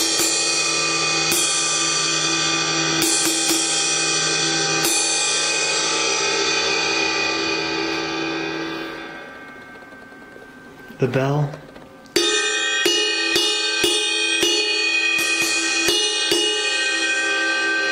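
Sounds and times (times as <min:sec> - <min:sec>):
ride cymbal struck with drumstick: 0:00.0 - 0:11.3, 0:12.2 - 0:17.9.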